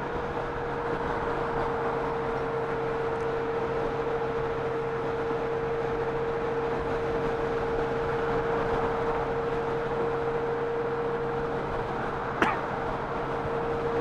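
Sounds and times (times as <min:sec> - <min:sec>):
constant whining tone: 0:00.0 - 0:14.0
motorcycle running noise: 0:00.0 - 0:14.0.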